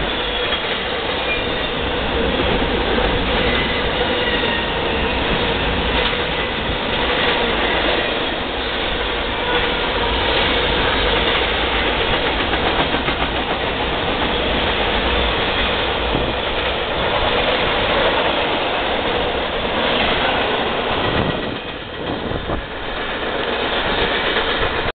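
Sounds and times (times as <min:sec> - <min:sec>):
train wheels clattering on rails: 0:00.0 - 0:24.9.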